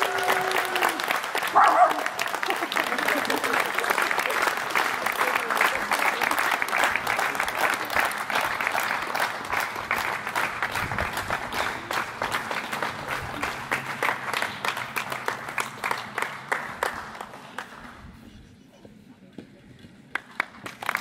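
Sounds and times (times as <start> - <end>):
applause: 0.0 - 18.2, 20.1 - 21.0.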